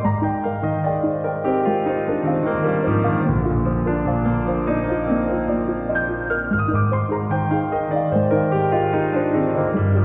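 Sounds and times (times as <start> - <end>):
slow keyboard melody: 0.0 - 10.0.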